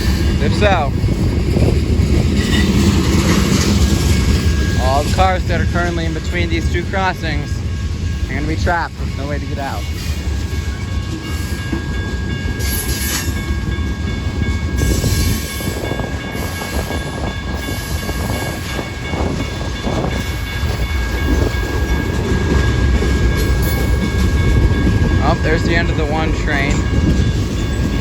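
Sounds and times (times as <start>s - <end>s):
wheel clatter over rail joints: 0.0s - 7.6s, 8.2s - 28.0s
freight train rumbling past: 0.0s - 28.0s.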